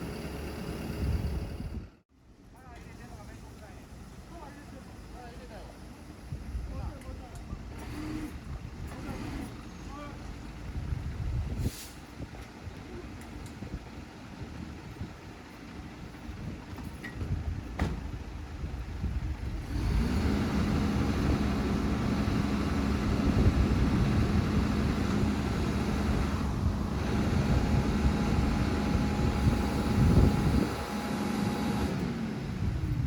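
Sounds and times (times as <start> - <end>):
truck engine running: 0.0 - 2.0, 7.2 - 33.0.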